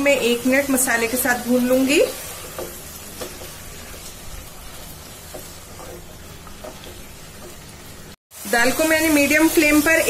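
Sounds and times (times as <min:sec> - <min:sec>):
lentils sizzling in oil: 0:00.0 - 0:10.0.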